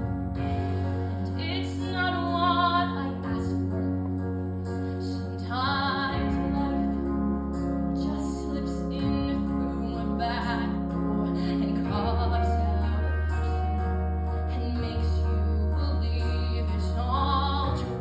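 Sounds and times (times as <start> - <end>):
sustained low instrumental chords: 0.0 - 18.0
girl singing: 1.3 - 4.0, 5.2 - 7.2, 7.9 - 18.0.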